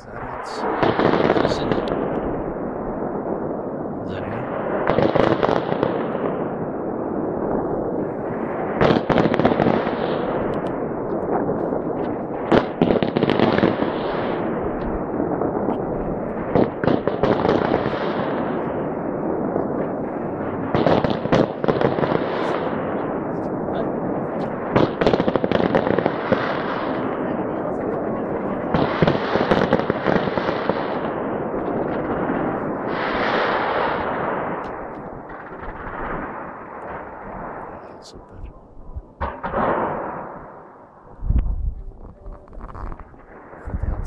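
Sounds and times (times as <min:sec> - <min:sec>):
fireworks exploding: 0:00.0 - 0:44.0
sharp fireworks bangs: 0:00.0 - 0:44.0.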